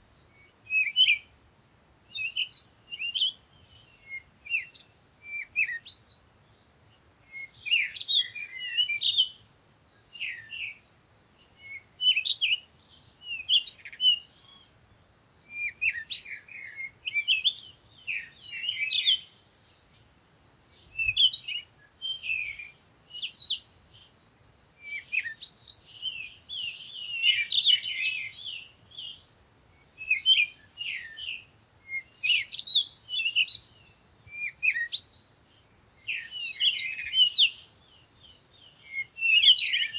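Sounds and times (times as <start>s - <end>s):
songbirds chirping and singing: 2.2s - 39.9s.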